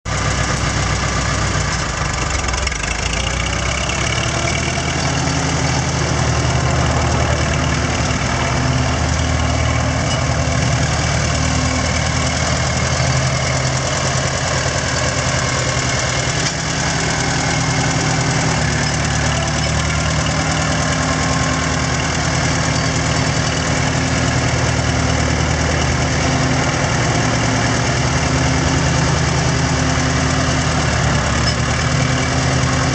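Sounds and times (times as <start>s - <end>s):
tractor engine running: 0.1s - 32.9s.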